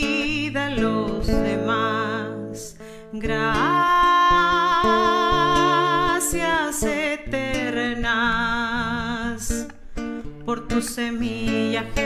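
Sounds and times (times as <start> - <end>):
acoustic guitar plucked: 0.0 - 12.0
woman singing: 0.0 - 12.0.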